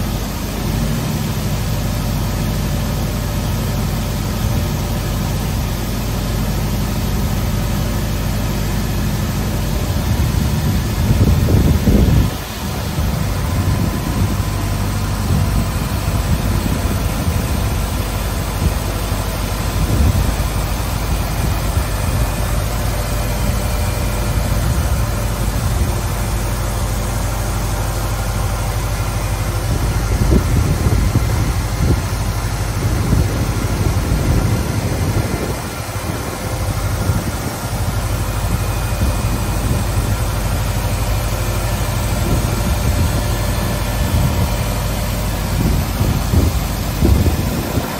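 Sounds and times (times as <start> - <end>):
planer machine humming: 0.0 - 47.9
rushing noise: 5.4 - 47.9.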